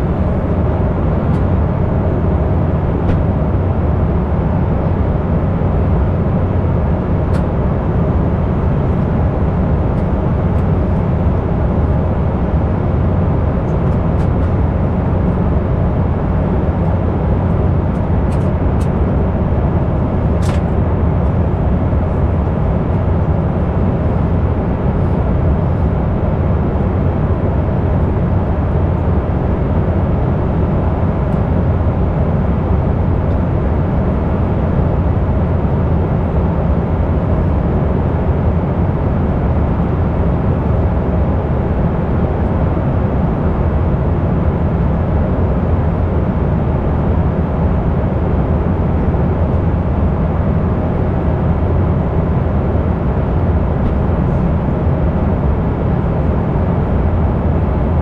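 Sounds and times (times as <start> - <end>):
airliner cabin drone: 0.0 - 58.0.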